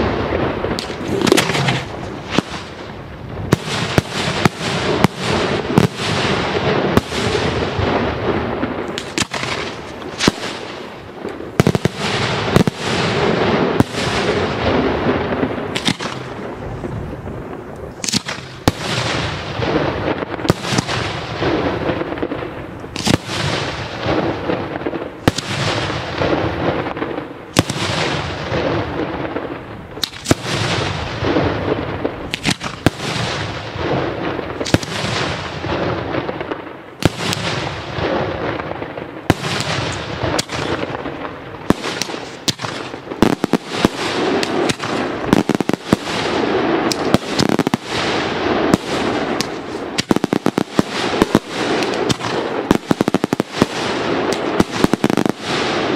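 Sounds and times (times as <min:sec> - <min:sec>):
fireworks bangs echoing: 0:00.0 - 0:55.9.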